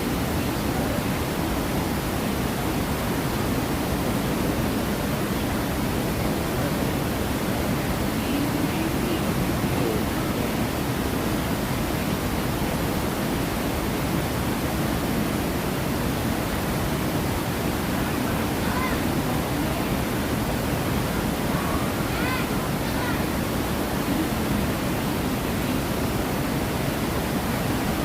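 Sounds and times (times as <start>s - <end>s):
faint distant voices: 0.0s - 12.5s, 14.5s - 28.0s
water rushing and churning: 0.0s - 28.0s.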